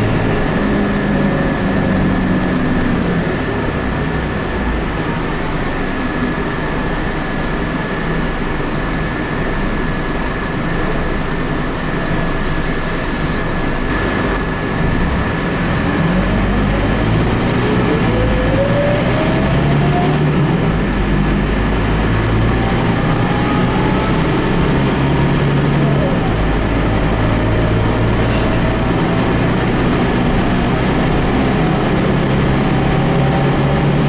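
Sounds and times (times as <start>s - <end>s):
bus diesel engine accelerating: 0.0s - 34.0s.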